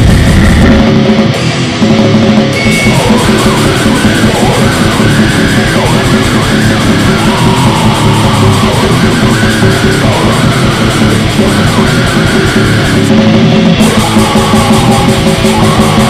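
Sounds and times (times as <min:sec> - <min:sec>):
harsh yelled vocals: 0:00.0 - 0:16.0
heavy metal music: 0:00.0 - 0:16.0.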